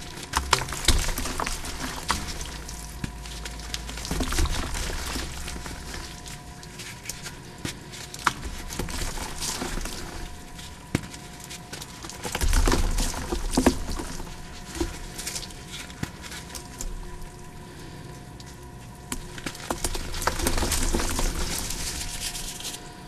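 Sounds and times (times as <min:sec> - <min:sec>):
chalk blocks crumbling and crunching: 0:00.0 - 0:17.8, 0:19.2 - 0:22.8.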